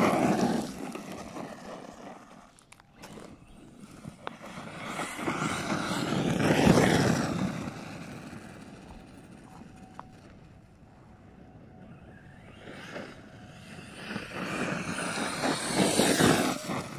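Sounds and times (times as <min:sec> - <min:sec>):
rc truck driving past on dirt: 0:00.0 - 0:16.9.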